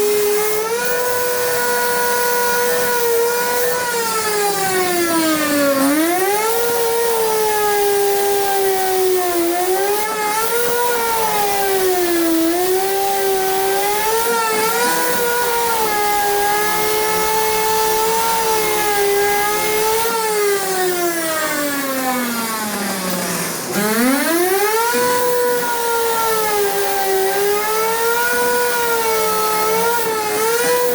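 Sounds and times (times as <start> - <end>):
power tool motor whine: 0.0 - 30.9.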